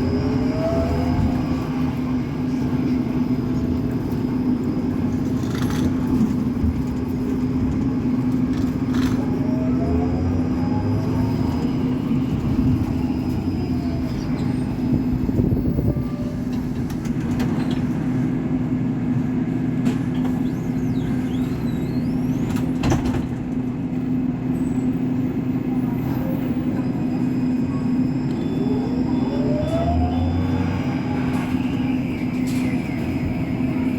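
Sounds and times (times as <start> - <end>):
trolleybus motor whine: 0.0 - 33.9.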